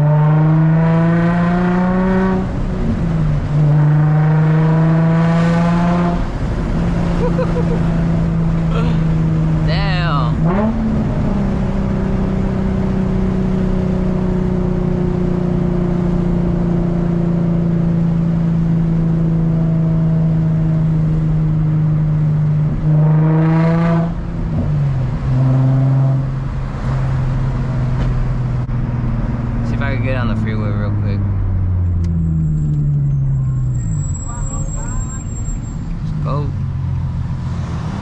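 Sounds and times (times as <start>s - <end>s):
car exhaust drone: 0.0s - 38.0s.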